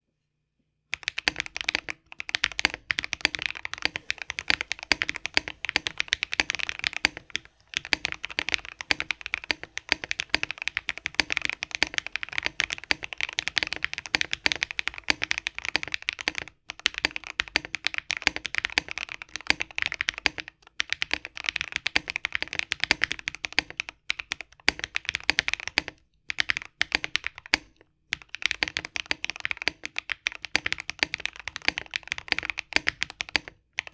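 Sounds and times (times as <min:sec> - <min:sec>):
mechanical keyboard typing: 0:00.9 - 0:33.9.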